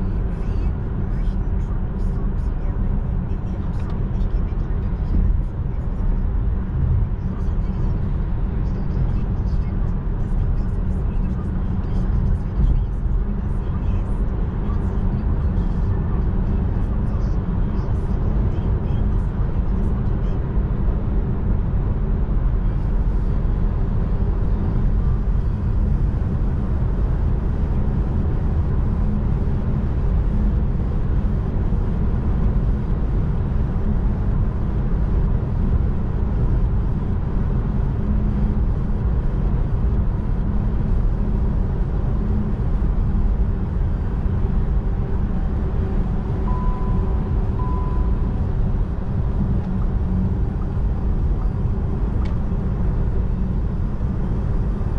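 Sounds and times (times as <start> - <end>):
tyre and wind roar in car cabin: 0.0 - 54.9.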